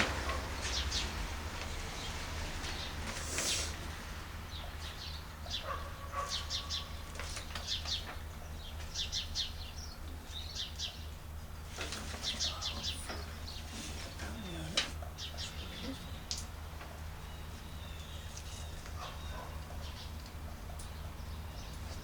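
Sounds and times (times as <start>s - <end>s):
small birds chirping: 0.0s - 3.8s, 4.5s - 22.0s.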